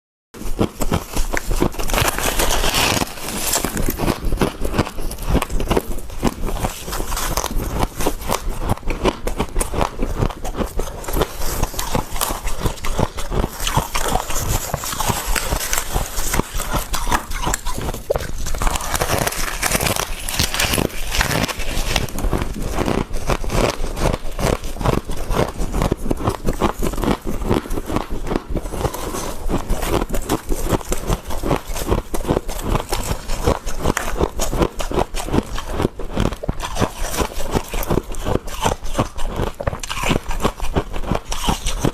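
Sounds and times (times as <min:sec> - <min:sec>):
frost being chewed: 0:00.4 - 0:41.9.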